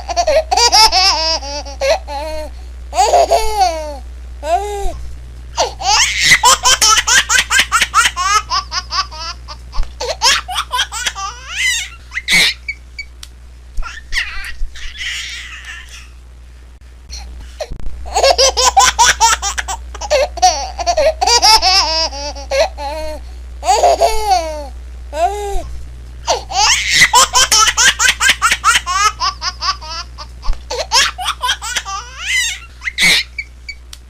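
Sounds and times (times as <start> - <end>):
baby giggling: 0.0 - 4.9, 5.6 - 12.8, 13.8 - 16.1, 18.1 - 25.4, 26.3 - 33.5.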